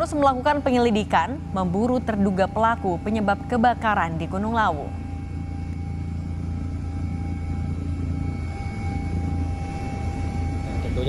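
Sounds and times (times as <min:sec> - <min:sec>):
helicopter engine drone: 0:00.0 - 0:11.0.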